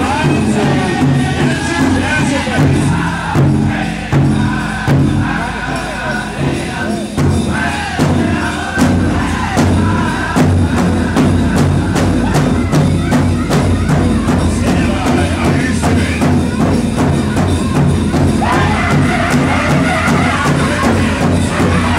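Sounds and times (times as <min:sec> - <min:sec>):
drum group singing in chorus: 0:00.0 - 0:21.9
large drum steady beat: 0:00.0 - 0:21.9.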